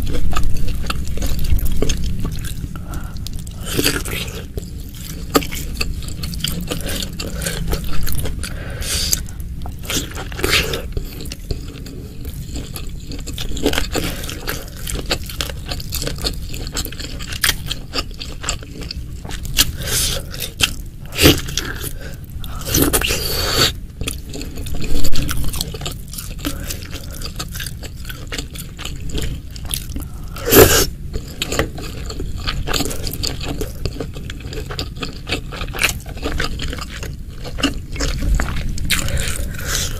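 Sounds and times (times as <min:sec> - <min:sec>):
chewing and wet mouth noises: 0:00.0 - 0:39.9
sharp eating sounds: 0:00.0 - 0:39.9.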